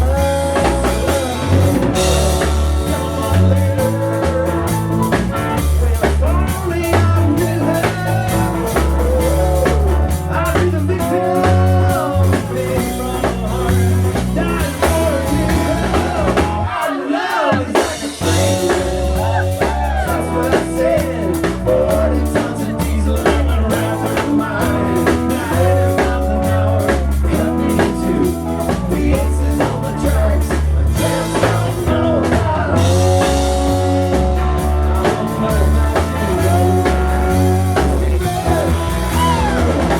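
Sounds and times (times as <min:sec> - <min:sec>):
rock band playing blues-rock: 0:00.0 - 0:39.9.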